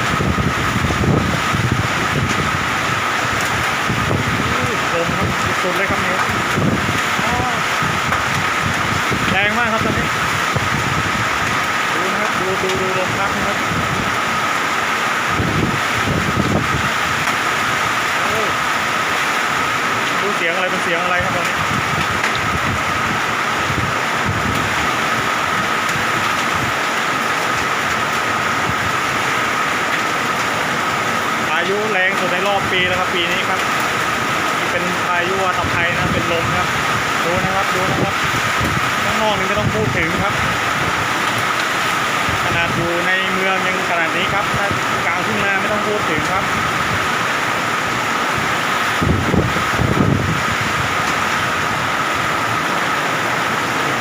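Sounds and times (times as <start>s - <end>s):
heavy rain: 0.0s - 54.0s
strong wind: 0.0s - 54.0s.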